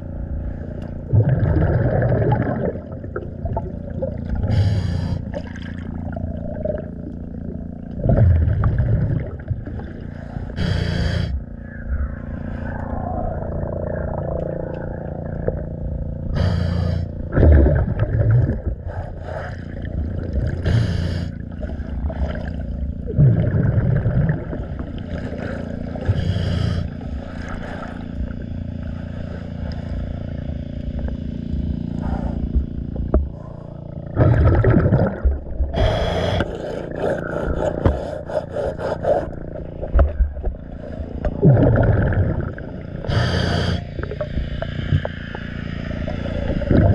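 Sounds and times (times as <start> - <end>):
steady low hum: 0.0 - 46.9
exhaled bubbles underwater: 0.7 - 29.0, 32.0 - 46.9.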